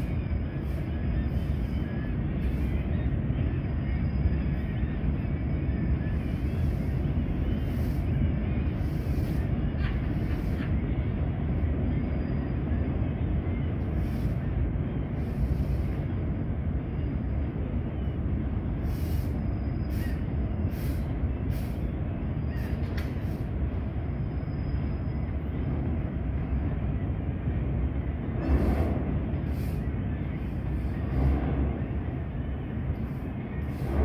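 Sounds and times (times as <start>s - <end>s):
freight train rumbling over bridge: 0.0s - 34.0s.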